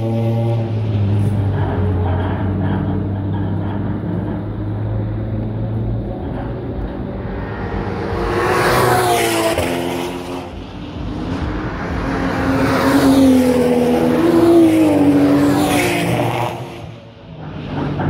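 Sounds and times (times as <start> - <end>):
racing cars passing at speed: 0.0 - 18.0.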